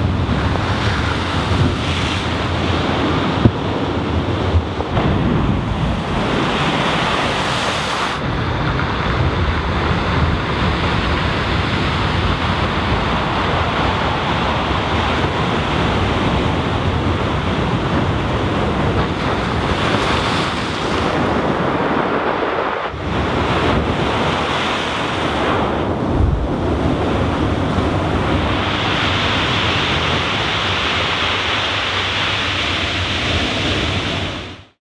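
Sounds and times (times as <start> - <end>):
wind buffeting microphone: 0.0 - 34.7
sea surf breaking against seawall: 0.0 - 34.8.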